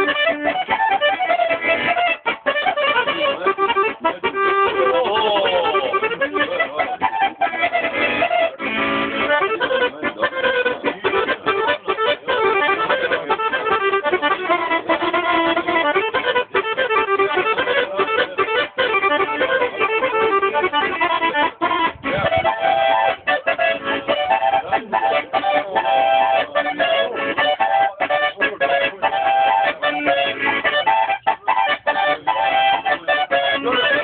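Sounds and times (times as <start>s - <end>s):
instrumental music: 0.0s - 34.0s.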